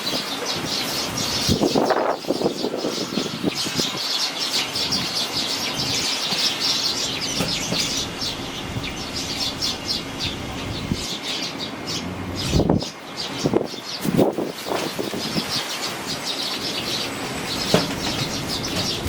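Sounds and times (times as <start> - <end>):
wind buffeting microphone: 0.0 - 4.1, 4.8 - 6.1, 6.8 - 19.0
young sparrows chirping: 0.0 - 19.0.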